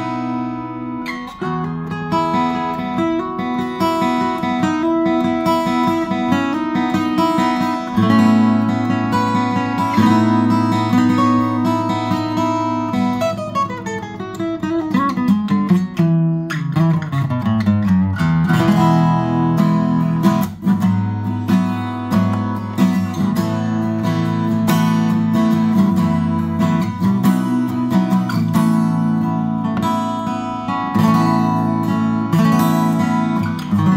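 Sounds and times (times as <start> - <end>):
acoustic guitar chords: 0.0 - 33.9.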